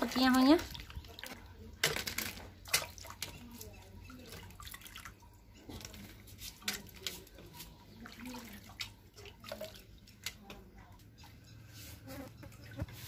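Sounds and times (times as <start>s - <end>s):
water sloshing and splashing: 0.0s - 11.4s.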